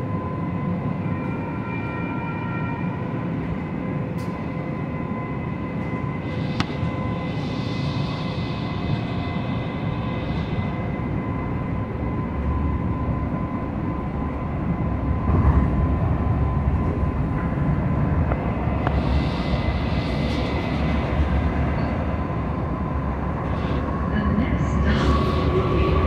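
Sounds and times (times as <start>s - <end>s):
steady train car hum: 0.0s - 26.0s
train wheels rumbling on rails: 0.0s - 26.0s.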